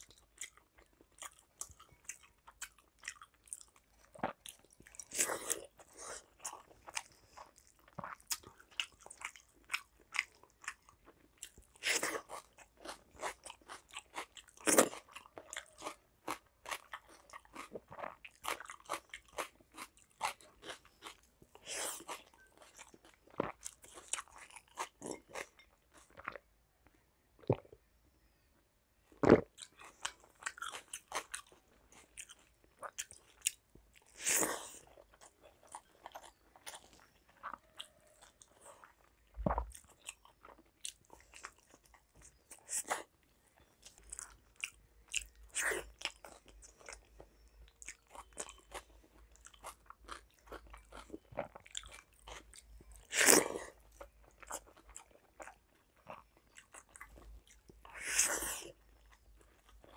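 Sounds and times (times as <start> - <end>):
person chewing and crunching: 0.0 - 26.5, 29.1 - 59.9.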